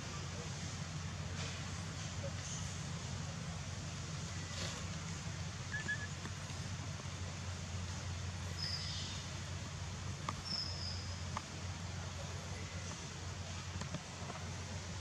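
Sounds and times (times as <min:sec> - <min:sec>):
outdoor hum and hiss: 0:00.0 - 0:15.0.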